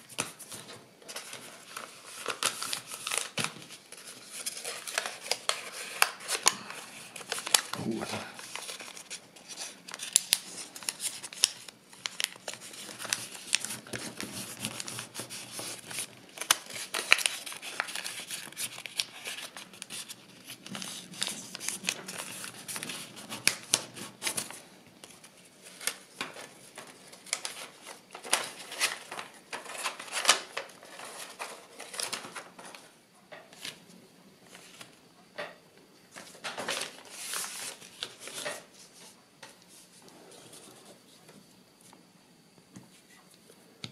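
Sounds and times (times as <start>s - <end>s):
paper crinkling as folded: 0.0s - 41.2s.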